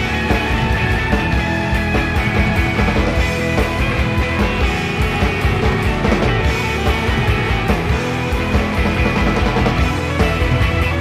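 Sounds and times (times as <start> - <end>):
indie rock song: 0.0 - 11.0.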